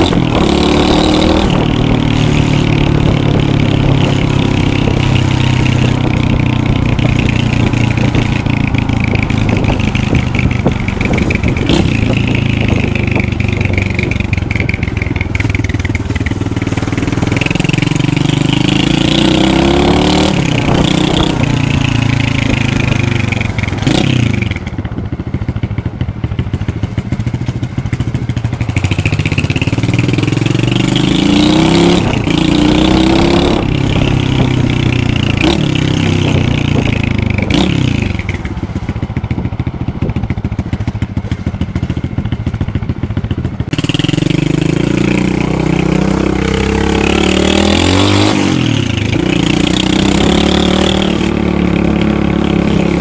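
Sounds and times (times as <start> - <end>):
pit bike engine revving: 0.0 - 24.7, 28.7 - 42.0, 43.6 - 53.0.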